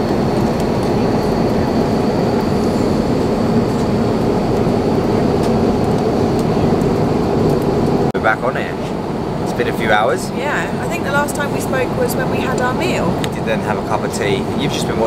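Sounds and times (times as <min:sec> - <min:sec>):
airliner cabin roar: 0:00.0 - 0:15.0
thin high whine: 0:00.0 - 0:15.0.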